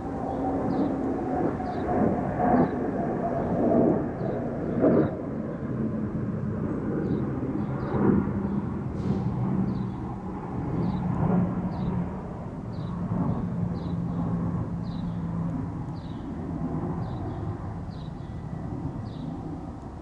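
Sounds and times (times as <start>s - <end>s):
low mechanical drone: 0.0s - 20.0s.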